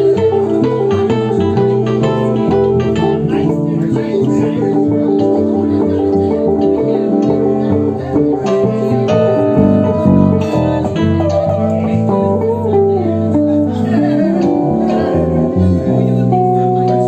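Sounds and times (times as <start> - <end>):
live band instrumental: 0.0 - 17.0.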